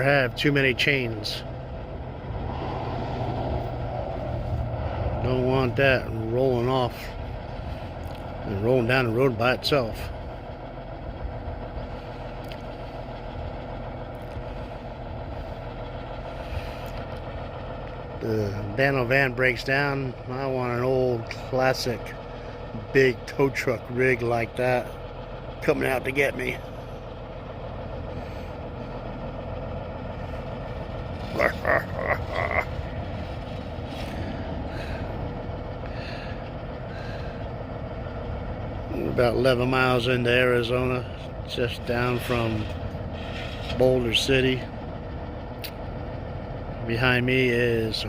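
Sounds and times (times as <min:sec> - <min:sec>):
truck engine rumbling: 0:00.0 - 0:48.0.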